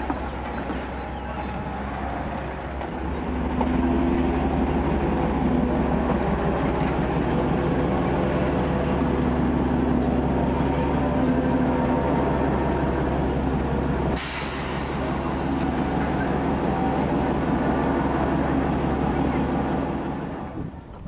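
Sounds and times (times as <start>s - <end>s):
diesel locomotive engine idling: 0.0s - 21.0s.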